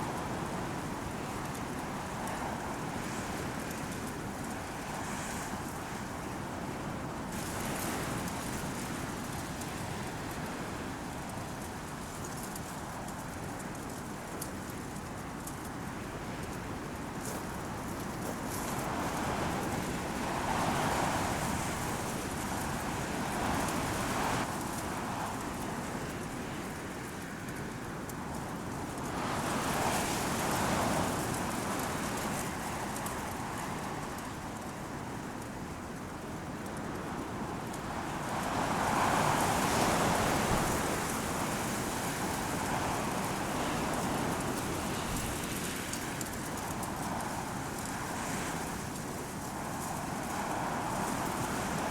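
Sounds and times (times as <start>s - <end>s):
wind blowing through bushes: 0.0s - 51.9s.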